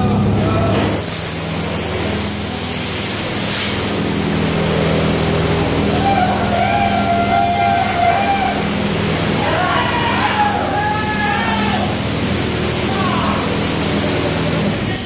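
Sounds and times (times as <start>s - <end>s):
machinery humming: 0.0s - 15.0s
spray jets hissing: 0.6s - 15.0s.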